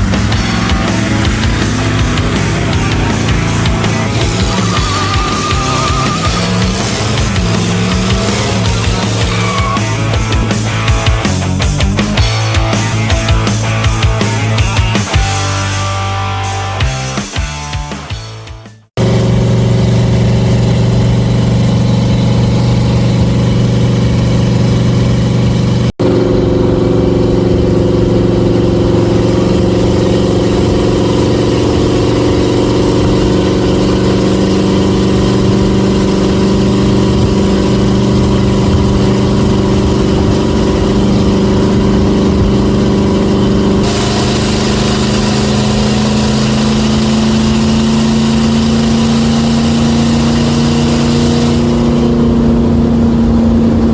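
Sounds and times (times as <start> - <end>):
car engine idling: 0.0 - 15.8, 19.0 - 53.9.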